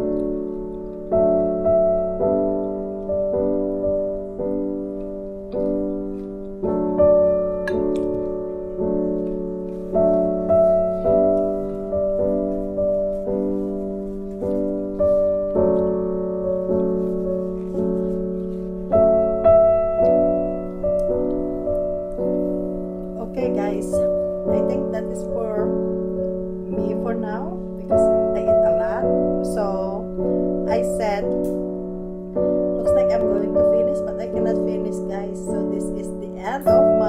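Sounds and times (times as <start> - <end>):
gentle piano chords: 0.0 - 37.0.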